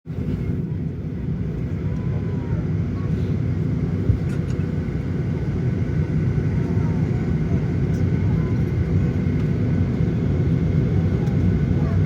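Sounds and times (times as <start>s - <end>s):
low rumble of cabin noise: 0.1s - 12.0s.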